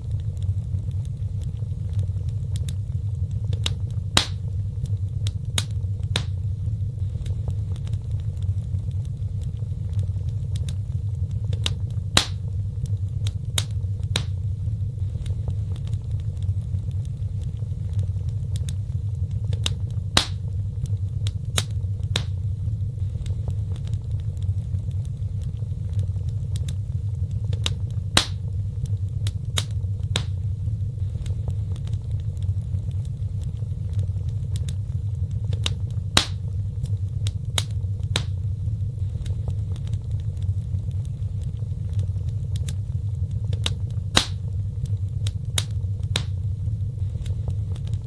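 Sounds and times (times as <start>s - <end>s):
low rumble of burning: 0.0s - 48.0s
wood fire pops and snaps: 0.0s - 48.0s.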